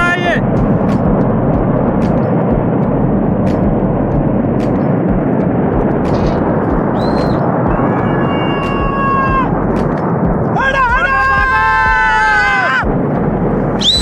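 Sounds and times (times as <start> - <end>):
flood water rushing rumble: 0.0 - 14.0.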